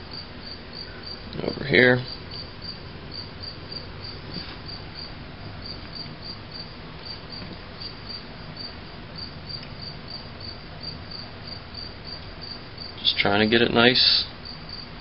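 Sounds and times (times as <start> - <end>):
cricket chirping: 0.0 - 15.0
low background hum: 0.0 - 15.0.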